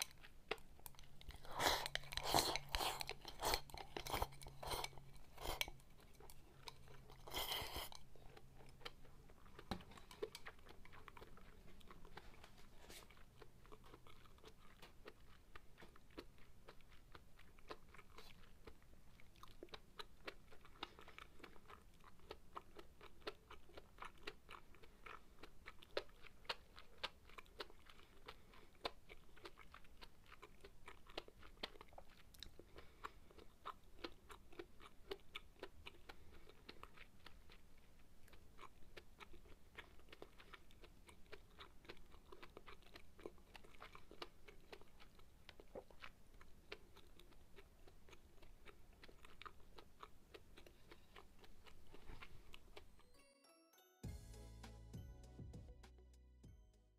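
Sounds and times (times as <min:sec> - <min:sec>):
person chewing food: 0:00.0 - 0:53.2.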